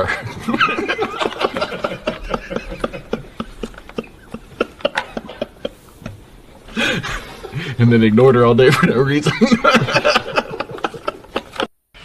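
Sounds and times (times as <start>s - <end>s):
men laughing: 0.0s - 7.8s, 8.6s - 11.7s.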